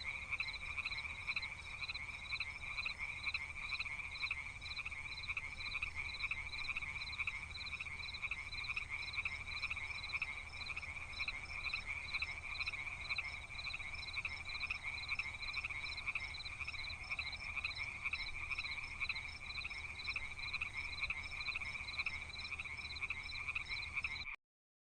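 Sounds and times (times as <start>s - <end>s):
frogs calling in chorus: 0.0s - 24.4s.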